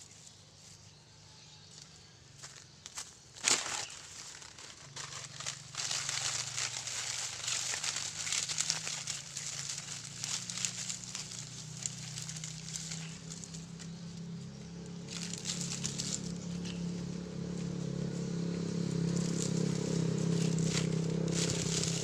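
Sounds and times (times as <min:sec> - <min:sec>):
dry leaves crackling and rustling: 0:00.0 - 0:22.0.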